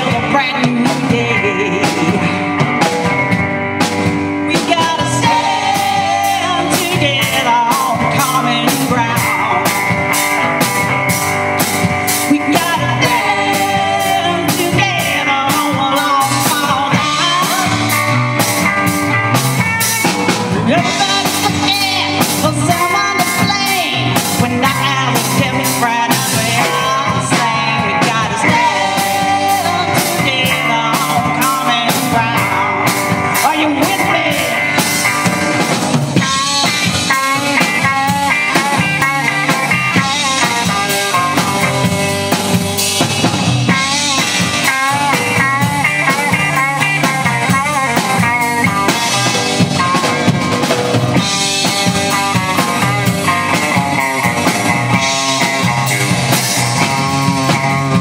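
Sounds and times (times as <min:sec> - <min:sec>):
drum kit beat: 0:00.0 - 0:58.0
electric bass: 0:00.0 - 0:58.0
electric guitars: 0:00.0 - 0:58.0.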